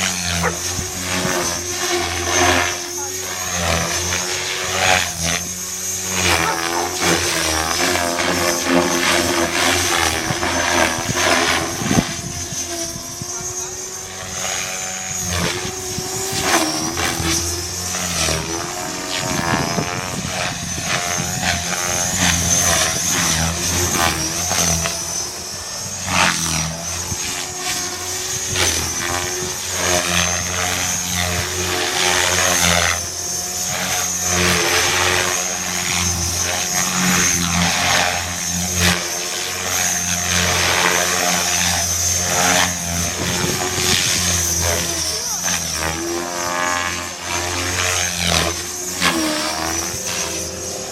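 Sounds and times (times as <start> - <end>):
model helicopter whine and rotor: 0.0 - 50.9.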